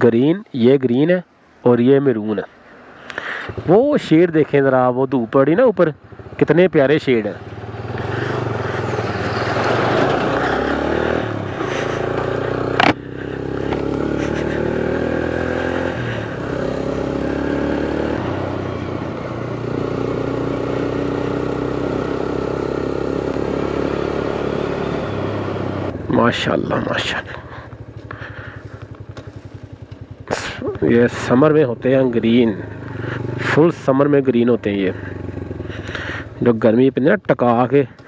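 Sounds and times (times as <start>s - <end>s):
motorcycle engine running: 5.9s - 36.4s.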